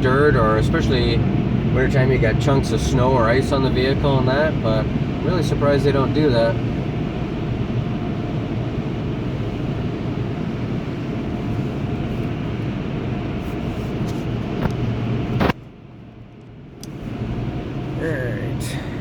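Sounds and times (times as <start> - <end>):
car wash equipment rushing: 0.0 - 15.5.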